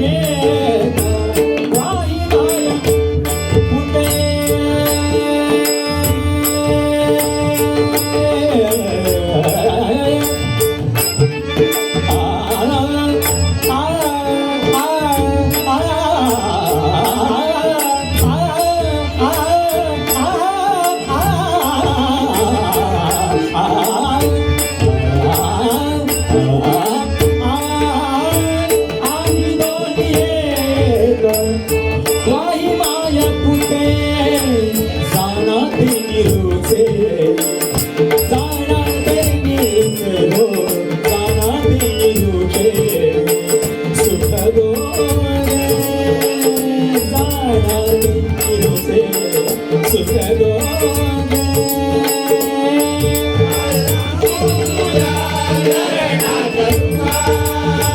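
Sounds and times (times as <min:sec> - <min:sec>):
man singing: 0:00.0 - 0:57.9.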